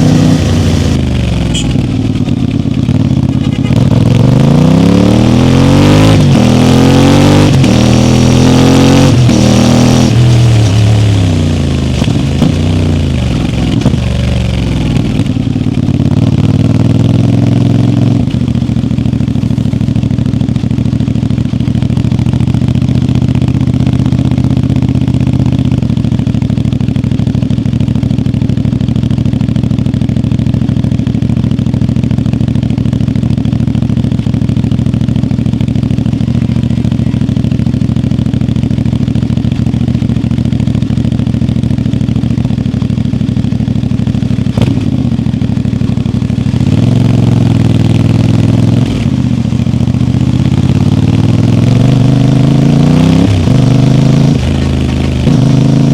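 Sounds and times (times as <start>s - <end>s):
motorcycle engine: 0.0s - 55.9s.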